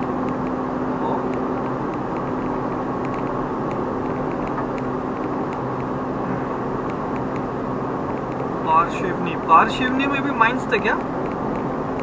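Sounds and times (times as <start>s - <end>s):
car road and engine noise: 0.0s - 12.0s
low hum: 0.0s - 12.0s.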